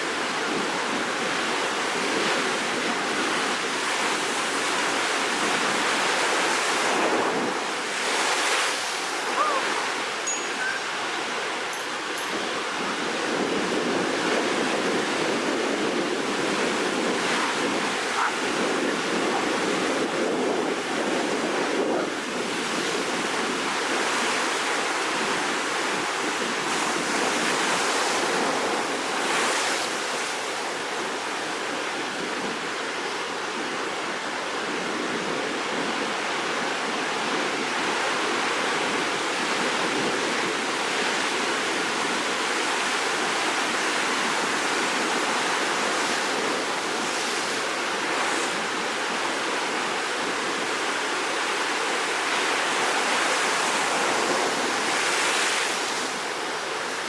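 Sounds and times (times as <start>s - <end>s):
surf breaking and washing: 0.0s - 57.0s.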